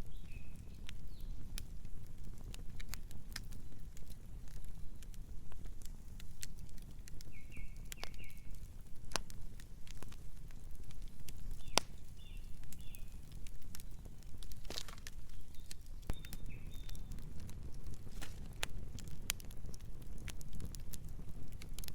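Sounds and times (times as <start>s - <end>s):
campfire crackling and popping: 0.0s - 21.9s
low rumble of flames: 0.0s - 21.9s.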